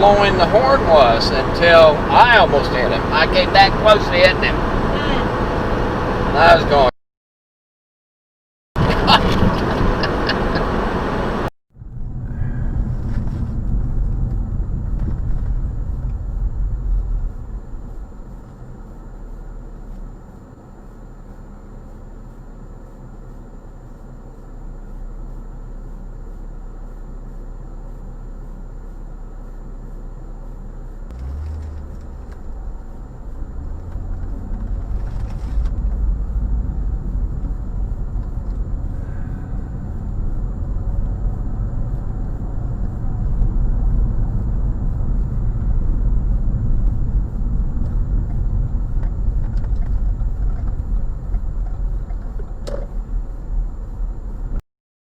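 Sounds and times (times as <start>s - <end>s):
car engine and road noise: 0.0s - 6.9s, 8.8s - 54.6s.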